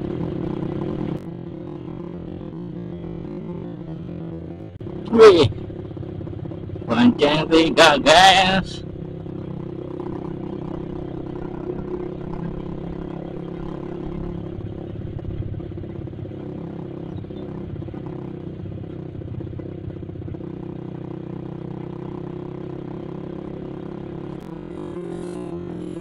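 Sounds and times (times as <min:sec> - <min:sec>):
motorcycle engine cruising: 0:00.0 - 0:26.0
road rumble: 0:00.0 - 0:26.0
wind: 0:00.0 - 0:26.0.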